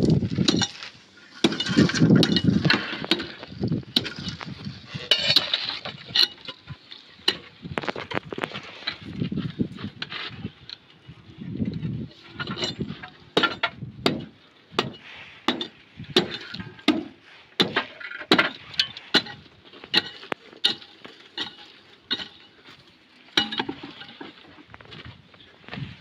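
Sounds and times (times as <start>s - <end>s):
shovel digging stony ground: 0.0s - 10.7s, 12.1s - 24.6s.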